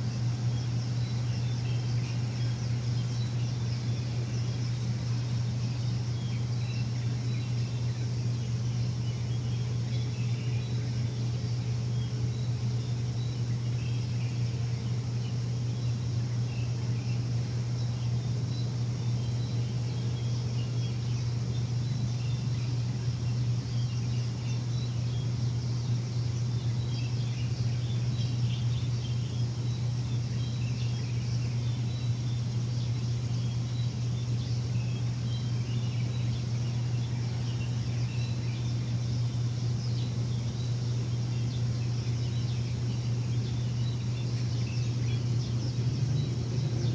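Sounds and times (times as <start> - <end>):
birds chirping: 0.0 - 46.9
machine humming: 0.0 - 46.9.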